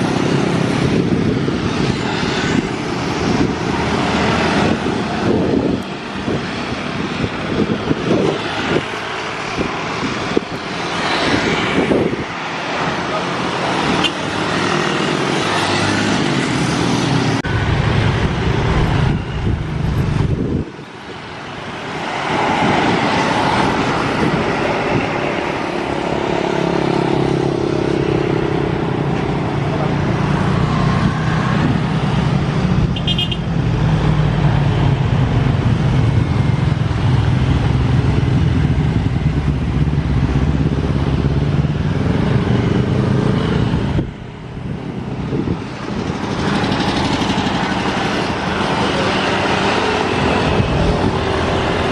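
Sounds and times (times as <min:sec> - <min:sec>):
road traffic passing: 0:00.0 - 0:51.9.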